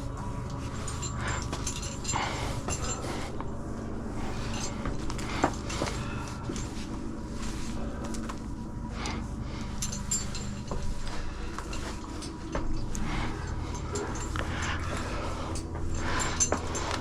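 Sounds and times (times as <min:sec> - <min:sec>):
person panting: 0:00.0 - 0:17.0.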